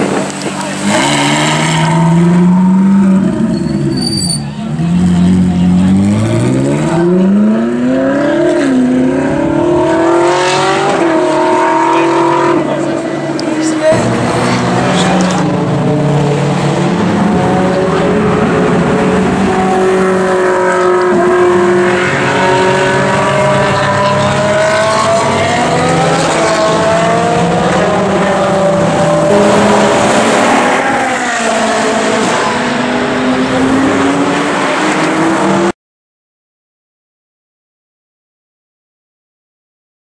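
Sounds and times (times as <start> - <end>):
race car engines passing: 0.0 - 35.7.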